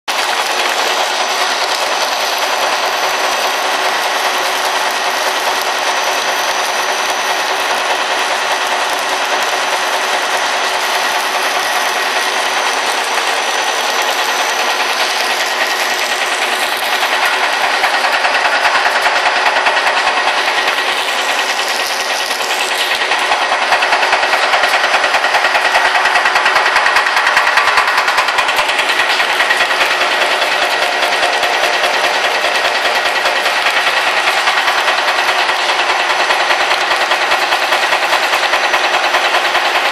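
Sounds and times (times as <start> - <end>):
thin high motor whine: 0.1 - 38.4
machine clattering: 0.1 - 39.9.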